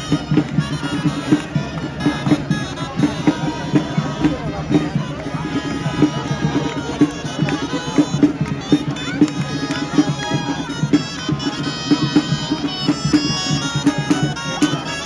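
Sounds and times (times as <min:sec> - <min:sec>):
shrill reedy shawms playing: 0:00.0 - 0:15.0
steady drum beat: 0:00.0 - 0:15.0.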